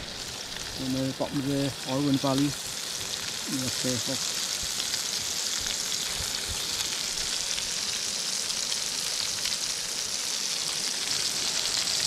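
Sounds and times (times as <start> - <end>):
sausages sizzling in a frying pan: 0.0 - 12.0.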